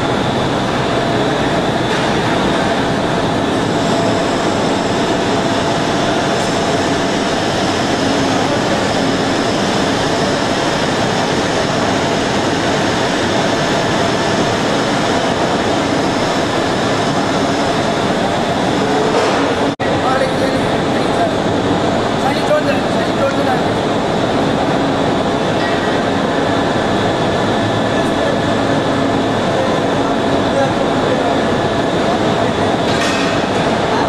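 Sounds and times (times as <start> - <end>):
factory machinery running: 0.0 - 34.0
faint machine whine: 0.0 - 34.0.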